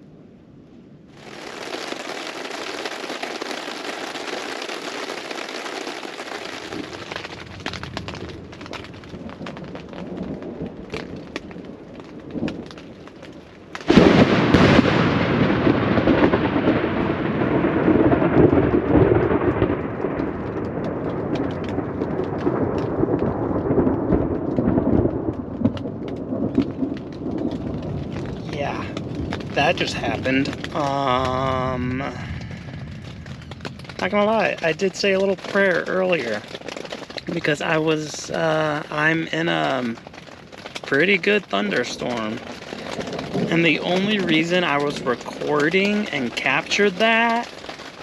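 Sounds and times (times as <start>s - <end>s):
rain on a tent: 1.1s - 48.0s
thunderclap: 1.2s - 48.0s.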